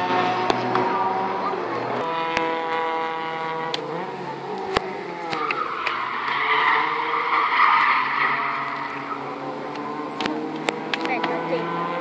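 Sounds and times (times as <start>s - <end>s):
car engine decelerating: 0.0s - 12.0s
tyres skidding: 0.0s - 12.0s.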